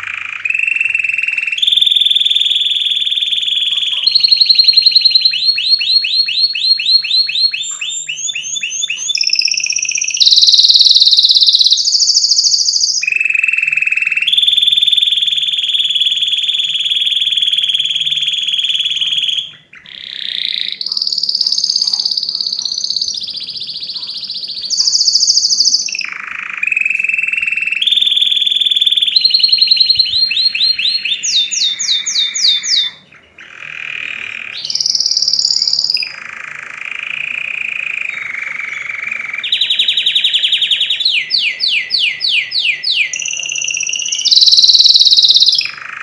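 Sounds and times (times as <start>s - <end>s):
canary singing trills: 0.0s - 46.0s.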